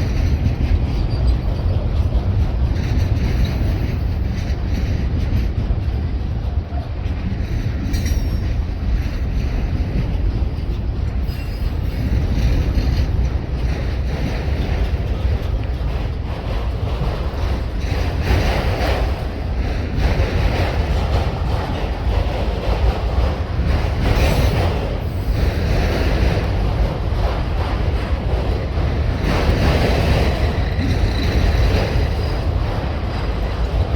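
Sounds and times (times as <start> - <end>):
train wheels rumbling on rails: 0.0 - 33.9
wind buffeting microphone: 0.0 - 33.9.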